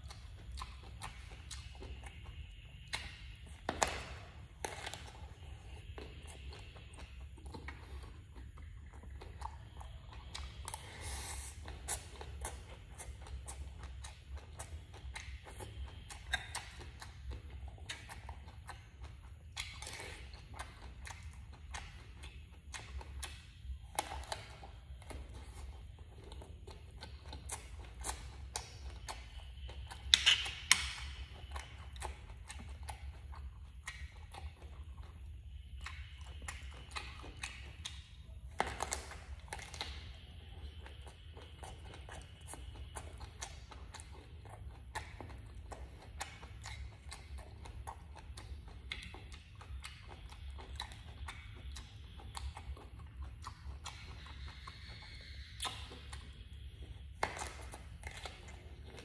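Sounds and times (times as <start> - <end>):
person chewing: 0.0 - 59.0
sharp eating sounds: 0.0 - 59.0.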